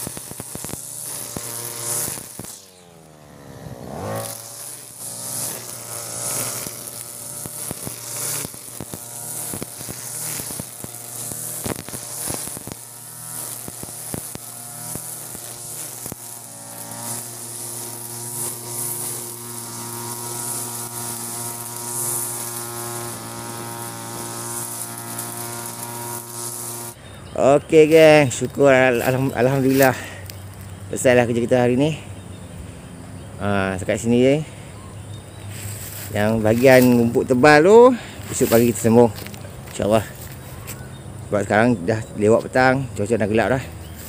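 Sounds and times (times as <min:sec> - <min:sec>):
brush cutter engine cutting grass: 0:00.0 - 0:44.0.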